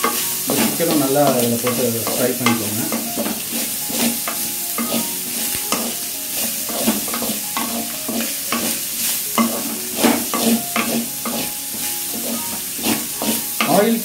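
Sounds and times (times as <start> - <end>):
spatula scraping metal pan: 0.0 - 13.9
food sizzling in oil: 0.0 - 14.0.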